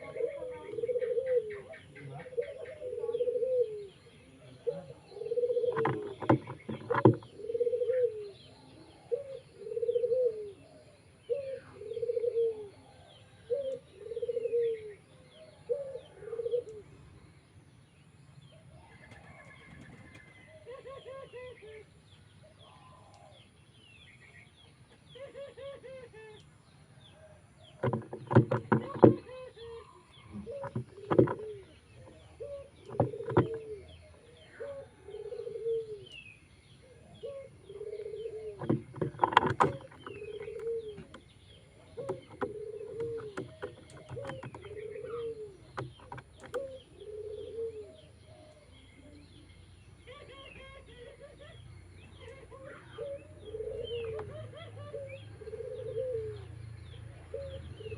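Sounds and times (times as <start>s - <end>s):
pigeon cooing: 0.0s - 17.1s, 18.6s - 23.4s, 25.1s - 26.4s, 27.1s - 57.9s.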